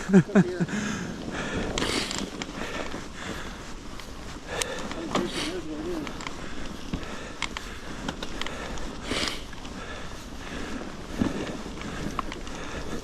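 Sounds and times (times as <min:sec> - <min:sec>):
bike clicks and rattles: 0:00.0 - 0:13.0
bike tyres through snow: 0:00.0 - 0:13.0
loud breath: 0:00.7 - 0:13.0.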